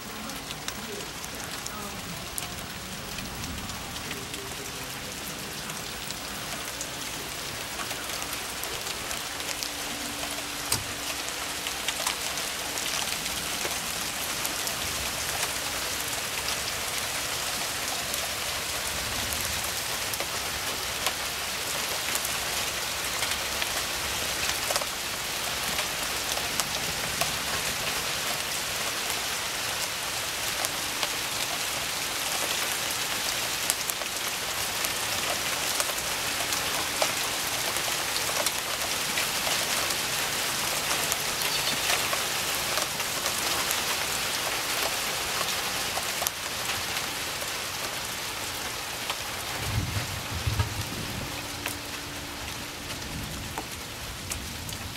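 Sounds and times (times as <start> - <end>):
heavy rain falling: 0.0 - 54.9
raindrops ticking close by: 0.0 - 54.9.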